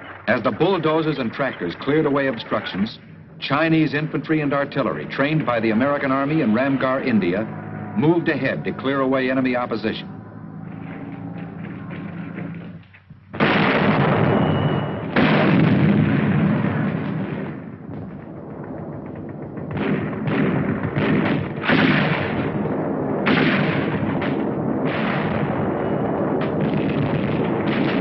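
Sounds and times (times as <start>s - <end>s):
gunshots: 0.0s - 28.0s
heavy artillery blasts: 0.0s - 28.0s.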